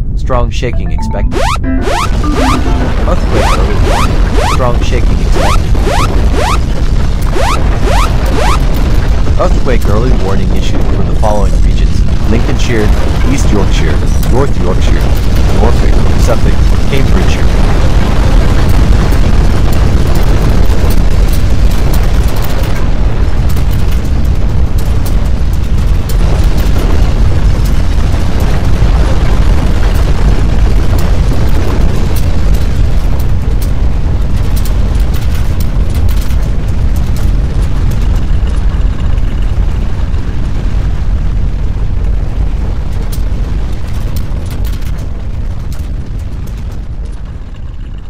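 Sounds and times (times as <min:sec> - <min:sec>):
deep earthquake rumble: 0:00.0 - 0:48.0
crackling and rattling: 0:01.4 - 0:48.0.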